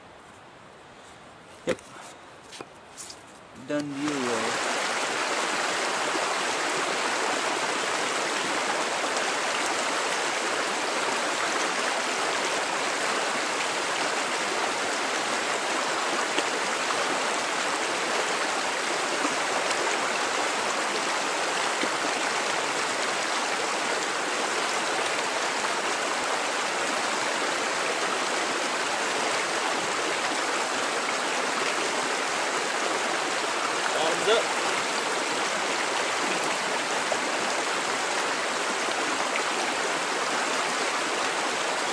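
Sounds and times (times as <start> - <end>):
stream water rushing: 1.7 - 41.9.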